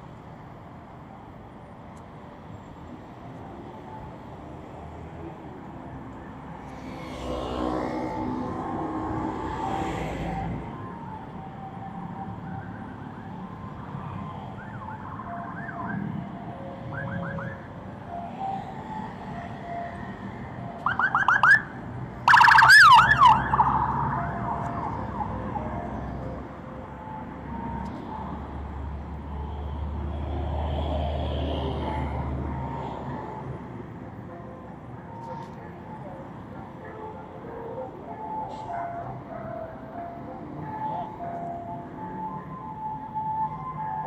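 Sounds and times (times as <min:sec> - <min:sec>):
city road traffic: 0:00.0 - 0:44.0
vehicle siren: 0:03.2 - 0:44.0.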